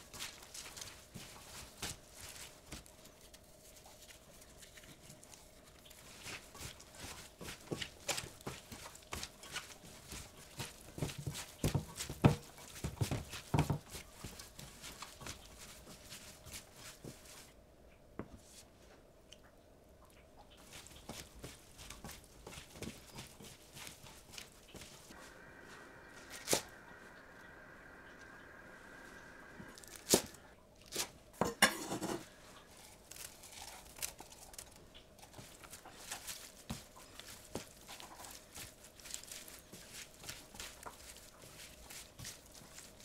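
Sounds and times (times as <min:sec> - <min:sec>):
vegetables rustling in a bowl: 0:00.0 - 0:17.6, 0:20.5 - 0:27.1, 0:29.6 - 0:43.0.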